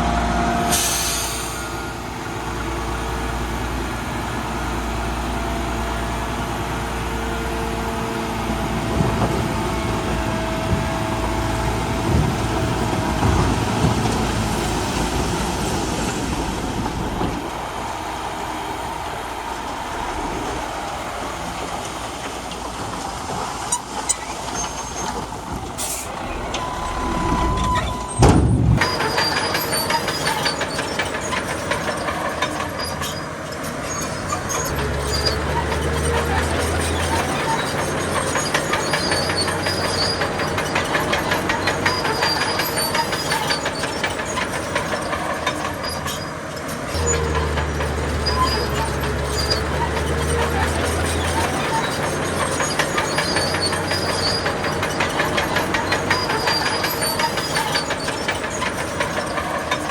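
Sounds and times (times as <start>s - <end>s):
bulldozer diesel engine under load: 0.0s - 59.9s
steel tracks clanking: 0.0s - 59.9s.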